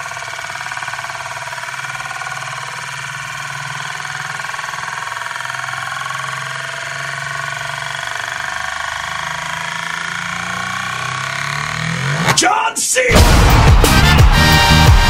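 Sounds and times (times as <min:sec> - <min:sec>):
spinning disc whirring rattle: 0:00.0 - 0:12.4.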